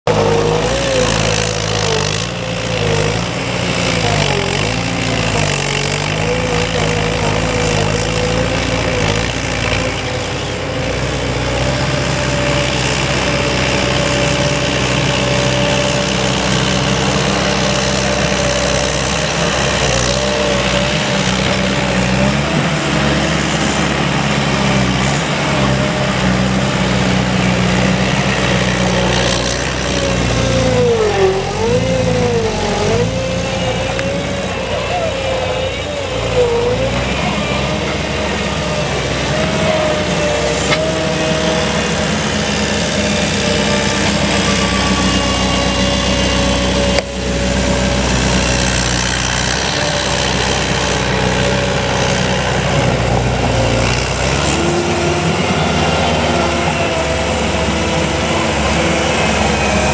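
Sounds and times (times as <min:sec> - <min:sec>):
diesel engine of loader running: 0:00.0 - 0:59.9.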